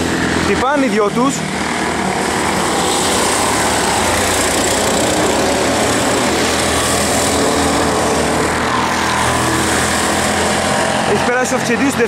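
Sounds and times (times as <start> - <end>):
go-kart engines driving past: 0.0 - 12.0.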